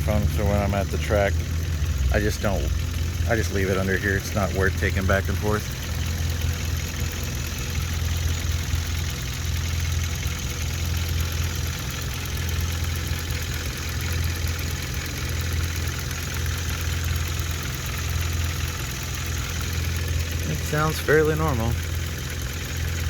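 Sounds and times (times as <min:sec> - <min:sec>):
car engine idling with ticking clatter: 0:00.0 - 0:23.0.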